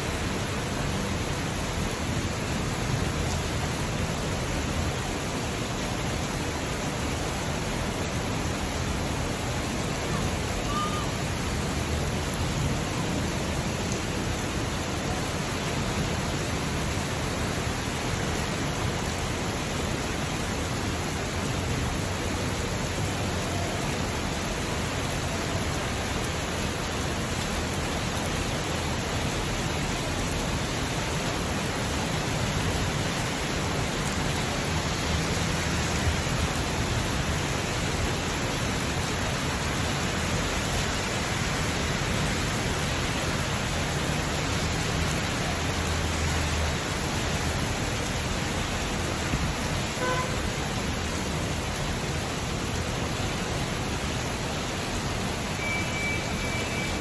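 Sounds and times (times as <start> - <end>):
low traffic rumble: 0.0 - 56.9
rain on a street: 0.0 - 57.0.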